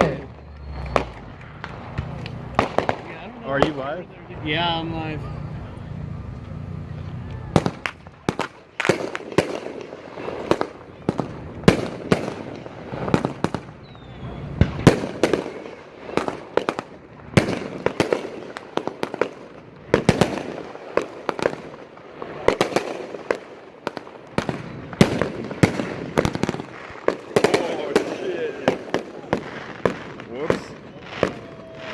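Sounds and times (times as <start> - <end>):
firework bangs: 0.0 - 31.9
firework crackle and rumble: 0.0 - 31.9.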